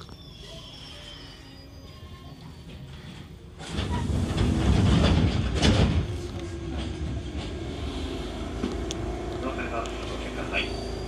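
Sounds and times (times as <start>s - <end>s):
electric train running on rails: 1.0s - 11.0s.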